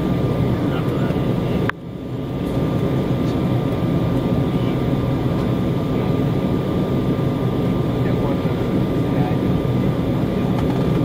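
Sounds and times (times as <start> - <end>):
rush of cabin air: 0.0 - 11.0
thin steady whine: 0.0 - 11.0
turbofan engines idling: 0.0 - 11.0.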